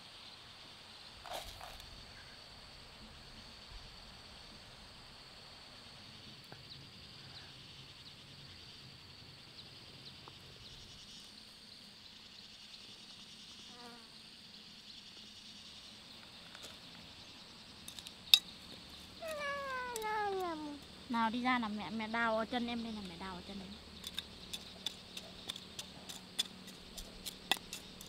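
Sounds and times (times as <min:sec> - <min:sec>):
insect chorus: 0:00.0 - 0:28.0.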